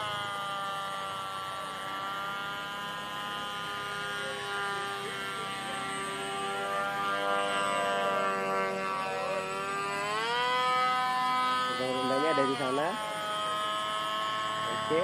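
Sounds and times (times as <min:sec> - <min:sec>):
model plane motor buzzing: 0:00.0 - 0:15.0.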